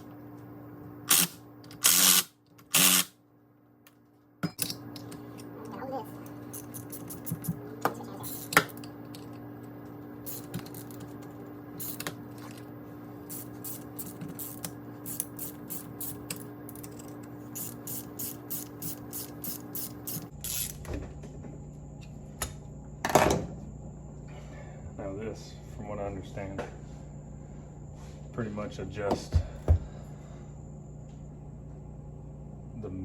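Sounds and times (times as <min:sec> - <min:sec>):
steady shop hum: 0:00.0 - 0:33.0.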